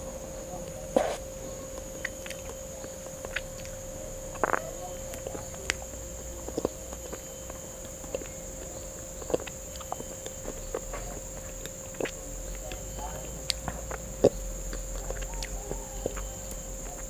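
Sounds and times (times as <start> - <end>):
faint steady hum: 0.0 - 17.0
wet mouth eating sounds: 0.6 - 17.0.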